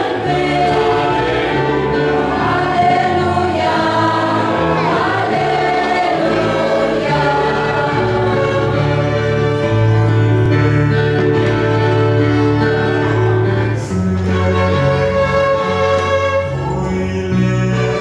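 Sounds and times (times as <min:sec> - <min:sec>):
mixed choir singing a hymn: 0:00.0 - 0:18.0
violins: 0:00.0 - 0:18.0.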